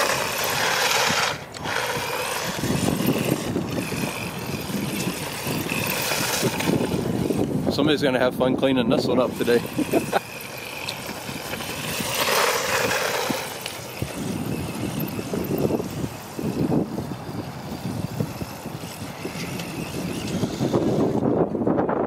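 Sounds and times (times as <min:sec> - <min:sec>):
toy truck motor whirring: 0:00.0 - 0:22.0.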